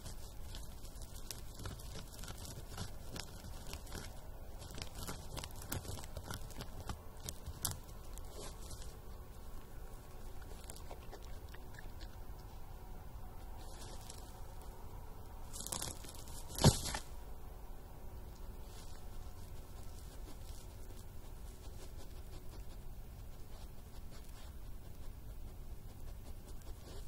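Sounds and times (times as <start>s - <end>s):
badger digging and chewing: 0.0s - 27.0s.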